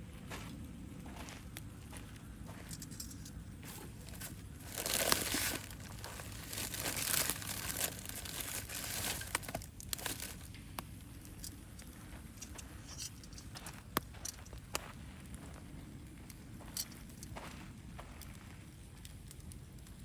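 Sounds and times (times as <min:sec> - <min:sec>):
crinkling handling noise: 0:00.3 - 0:20.0.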